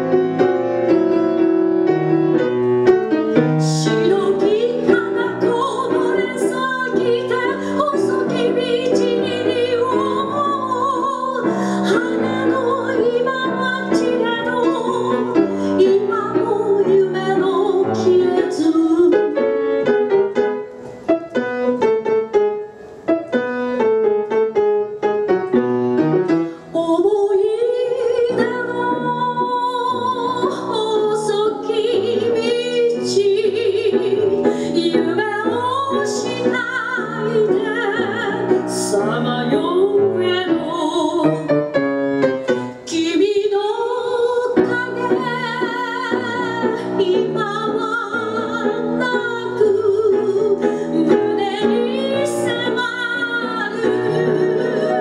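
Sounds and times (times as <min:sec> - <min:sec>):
piano accompaniment: 0:00.0 - 0:55.0
woman singing a tango: 0:03.0 - 0:22.1, 0:26.7 - 0:55.0.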